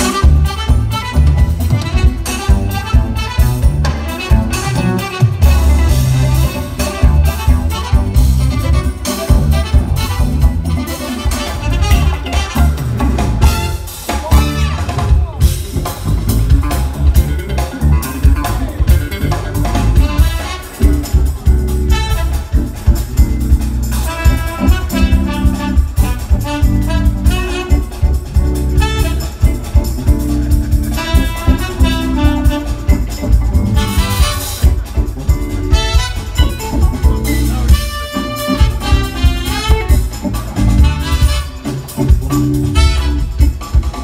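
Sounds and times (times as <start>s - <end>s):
driving drum beat: 0.0s - 44.0s
jazz fusion band playing: 0.0s - 44.0s
trumpet and saxophone melody: 0.0s - 44.0s.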